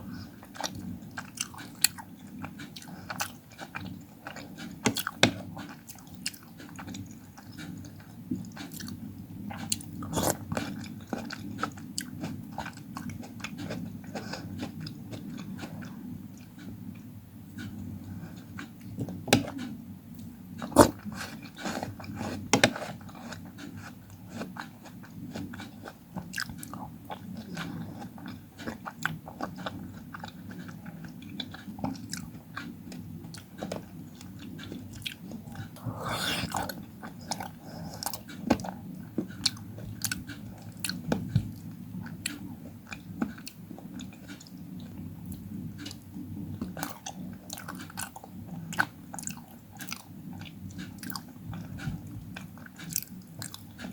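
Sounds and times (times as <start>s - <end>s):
person chewing fruit crunching: 0.0s - 17.0s, 17.6s - 53.9s.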